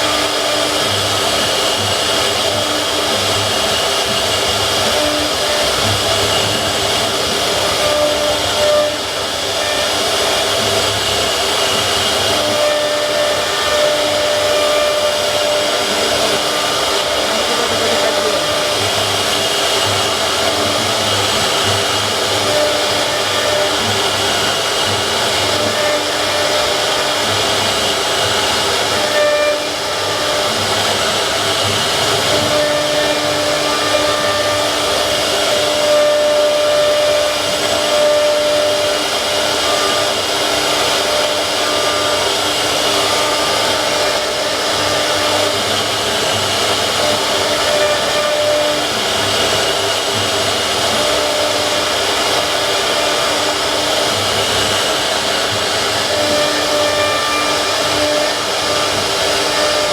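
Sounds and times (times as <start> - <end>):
high machine tones: 0.0 - 59.9
hiss: 0.0 - 59.9
router spindle running: 0.0 - 59.9.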